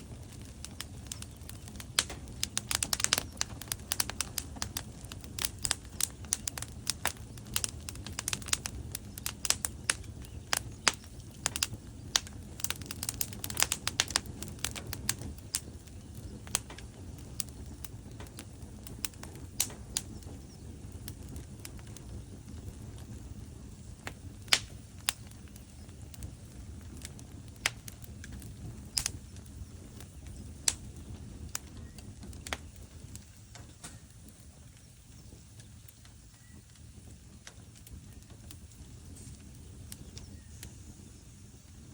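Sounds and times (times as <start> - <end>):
logs crackling and popping: 0.0 - 41.9
low rumble of flame: 0.0 - 41.9.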